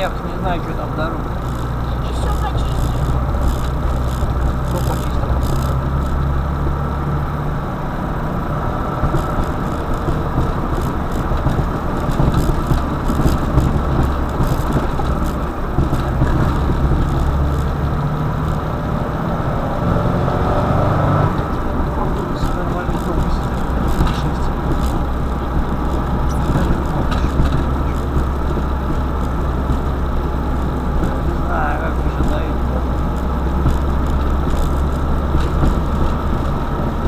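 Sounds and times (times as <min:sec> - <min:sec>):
car engine running: 0:00.0 - 0:37.0
road noise: 0:00.0 - 0:37.0.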